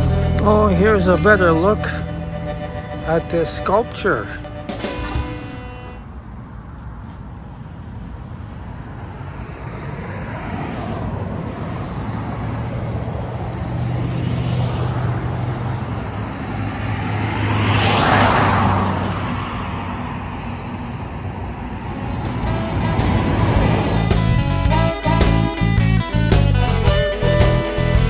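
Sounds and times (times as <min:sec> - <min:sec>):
vehicle passing on road: 0:00.0 - 0:28.0.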